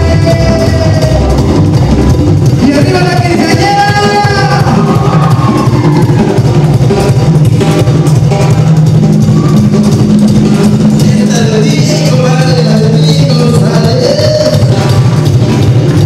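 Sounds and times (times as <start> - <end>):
bass line: 0.0 - 16.0
drum kit beat: 0.0 - 16.0
lead melody: 0.0 - 16.0.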